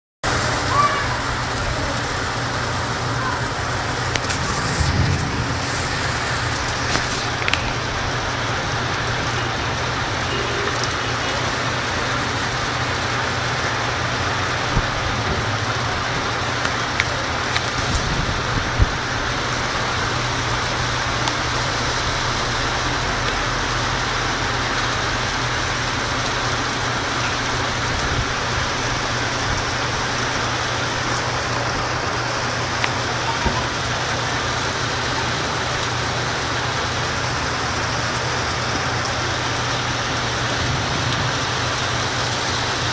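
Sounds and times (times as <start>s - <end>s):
heavy rain hissing: 0.2s - 42.9s
rain drops tapping: 0.3s - 42.9s.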